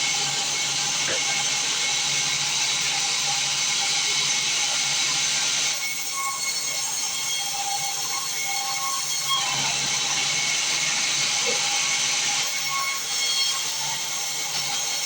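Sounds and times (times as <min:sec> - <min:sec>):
band saw cutting timber: 0:00.0 - 0:15.0.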